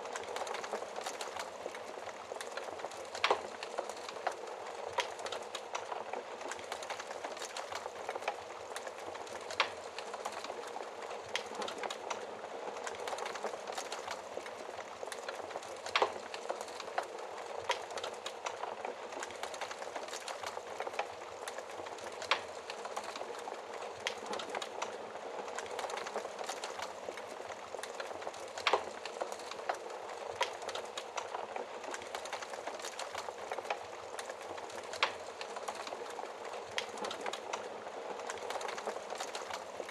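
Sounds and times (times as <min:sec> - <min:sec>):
campfire flames hissing: 0:00.0 - 0:39.9
fire crackling: 0:00.0 - 0:39.9.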